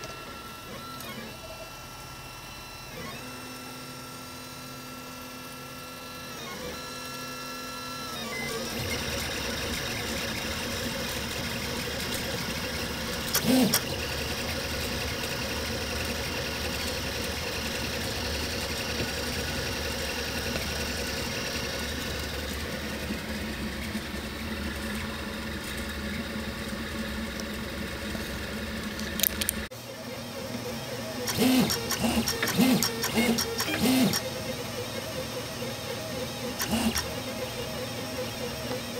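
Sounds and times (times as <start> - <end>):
motor whine rising and falling: 0.0 - 38.9
printer motors and fans humming: 0.0 - 38.9.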